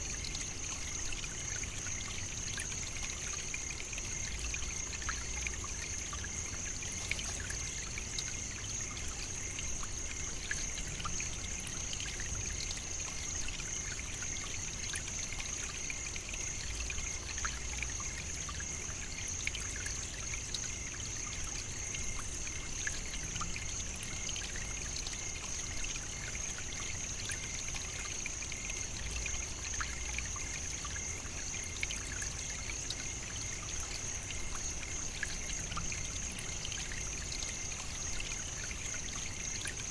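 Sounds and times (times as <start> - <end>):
trickling hiss: 0.0 - 39.9.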